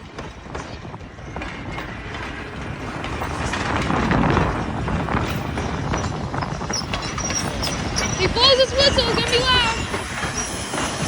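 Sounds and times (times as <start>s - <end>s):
steam train clanking on rails: 0.0s - 11.0s.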